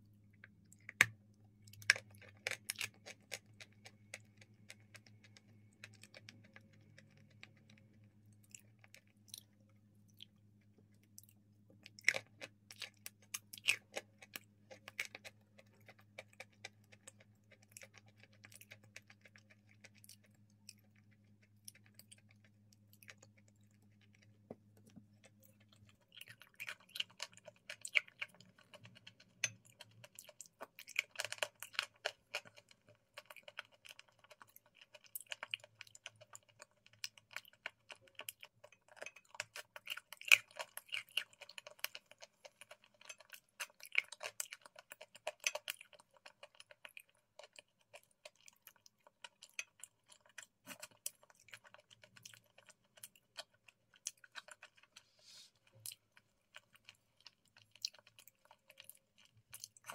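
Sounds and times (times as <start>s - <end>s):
wet chewing clicks: 0.3s - 55.0s, 55.6s - 59.9s.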